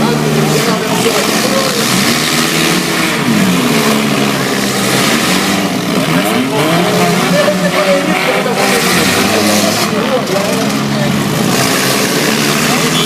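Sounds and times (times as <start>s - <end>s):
car engines revving: 0.0s - 13.0s
noisy din: 0.0s - 13.0s.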